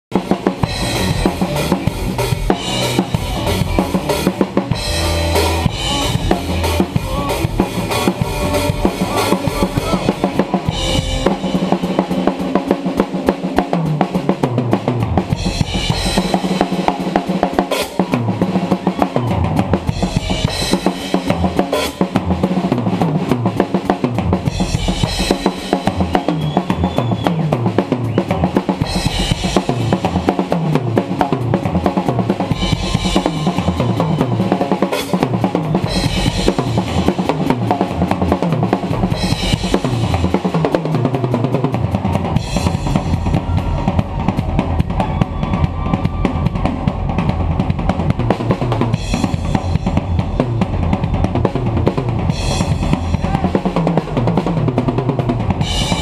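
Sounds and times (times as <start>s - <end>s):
drum kit solo: 0.1s - 56.0s.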